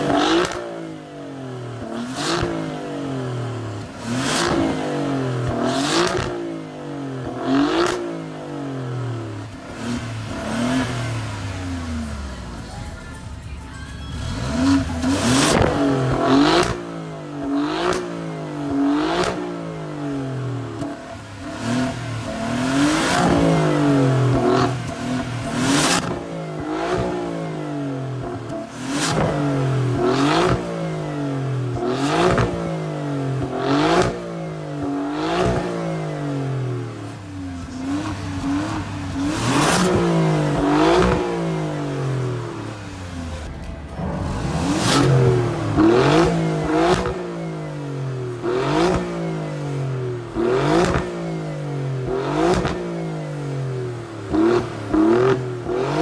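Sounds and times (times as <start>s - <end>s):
car engine revving through exhaust: 0.0s - 12.9s, 14.1s - 56.0s
exhaust crack: 0.0s - 56.0s.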